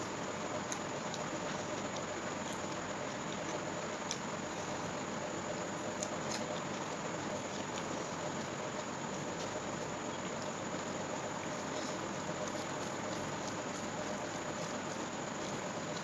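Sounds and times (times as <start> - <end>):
background hiss and hum: 0.0 - 16.0.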